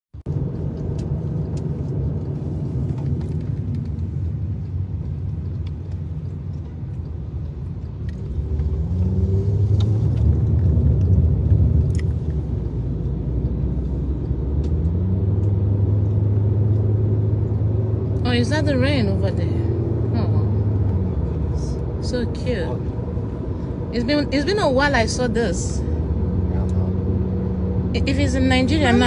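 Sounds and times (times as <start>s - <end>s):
car interior rumble: 0.2s - 29.0s.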